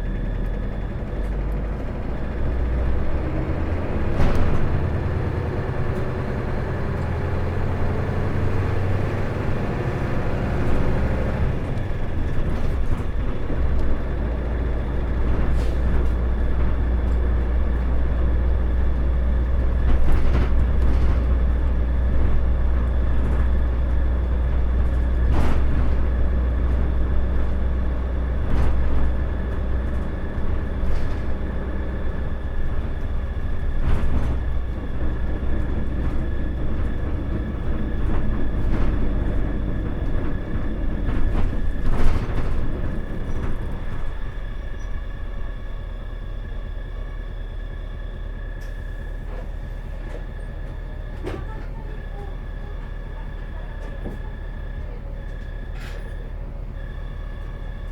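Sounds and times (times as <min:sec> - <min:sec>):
bus engine droning: 0:00.0 - 0:57.9.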